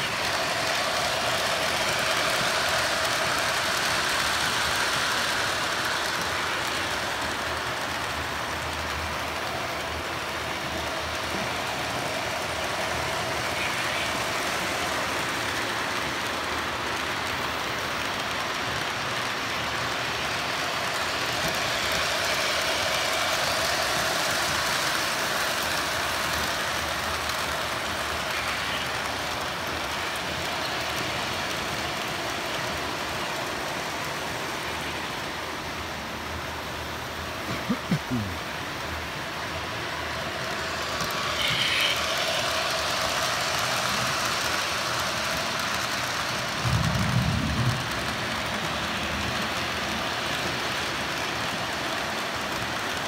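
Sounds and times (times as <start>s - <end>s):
model trains rolling on track: 0.0s - 53.0s.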